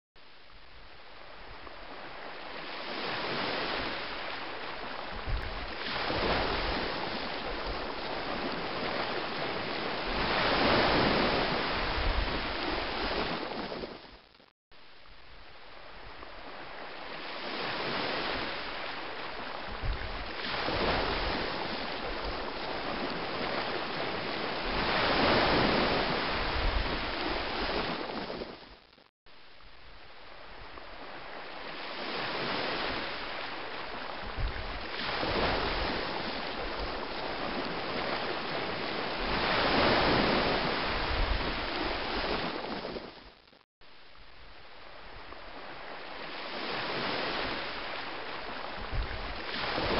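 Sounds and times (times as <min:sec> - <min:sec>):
surf-like water rushing: 0:00.9 - 0:14.1, 0:15.5 - 0:28.6, 0:30.1 - 0:43.2, 0:44.6 - 0:49.9.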